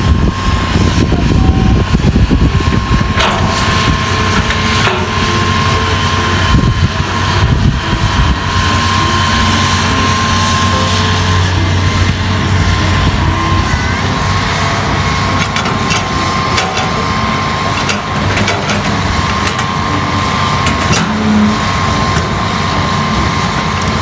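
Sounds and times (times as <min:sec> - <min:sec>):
excavator diesel engine running: 0:00.0 - 0:24.0
thin high whine: 0:00.0 - 0:24.0.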